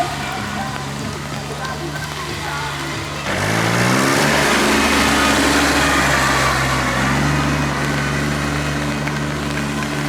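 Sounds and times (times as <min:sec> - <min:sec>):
tractor engine revving: 0:00.0 - 0:10.0.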